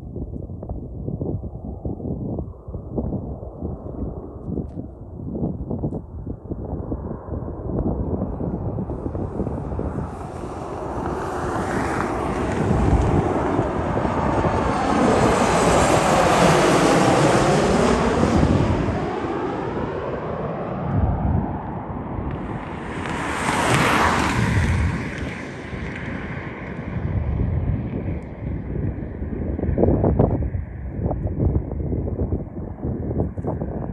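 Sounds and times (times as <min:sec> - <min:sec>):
wind on microphone: 0:00.0 - 0:33.9
jet plane passing overhead: 0:06.1 - 0:33.9.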